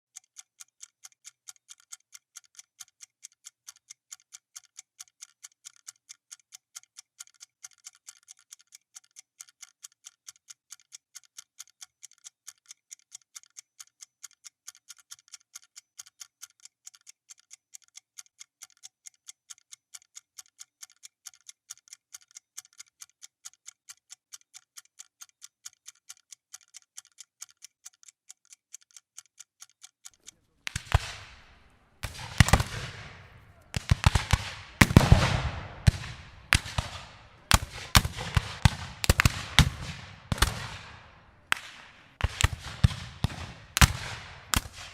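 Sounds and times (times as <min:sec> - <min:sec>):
clock ticking: 0:00.1 - 0:44.9.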